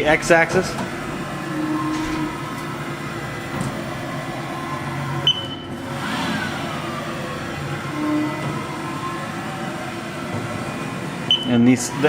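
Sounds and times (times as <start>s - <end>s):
machine running hum with whine: 0.0s - 12.0s.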